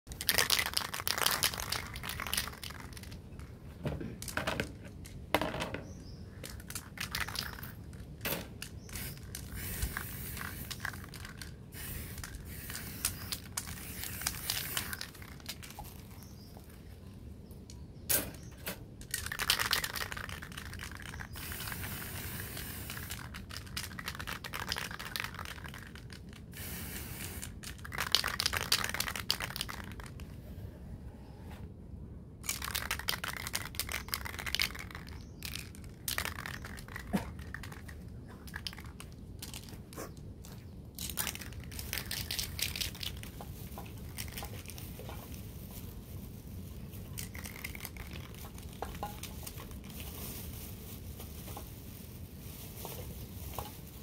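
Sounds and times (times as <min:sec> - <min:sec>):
rustling and crinkling: 0:00.1 - 0:26.7, 0:32.4 - 0:54.0.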